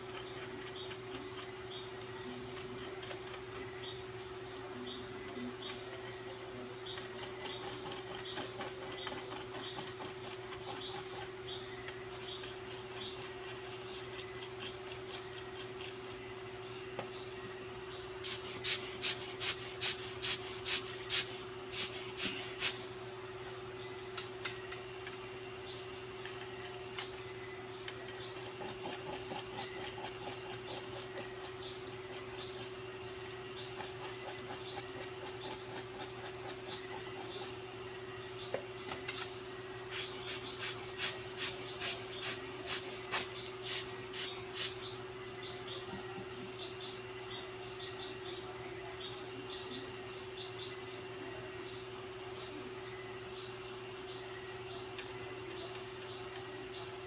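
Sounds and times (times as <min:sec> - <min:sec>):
steady hum and hiss: 0:00.0 - 0:57.0.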